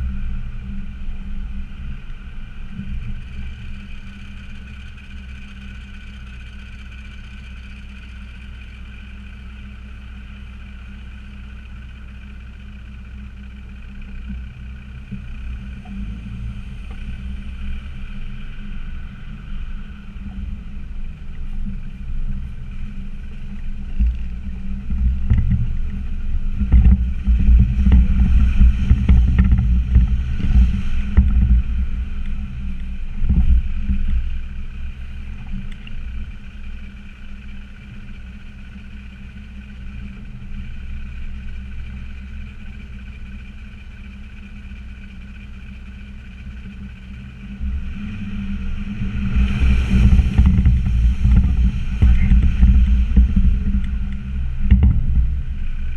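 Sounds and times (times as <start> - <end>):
diesel engine driving off-road: 0.0 - 55.9.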